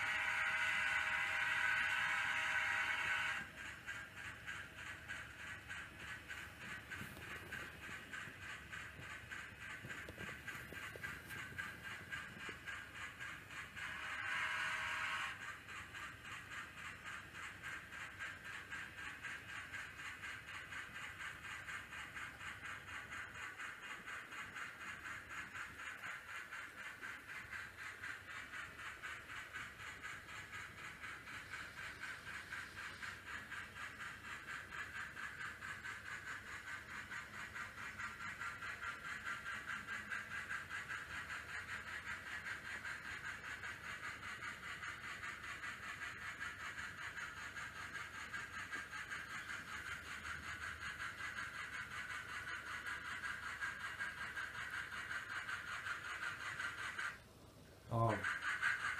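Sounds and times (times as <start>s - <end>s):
model steam locomotive chuffing: 0.0s - 58.9s.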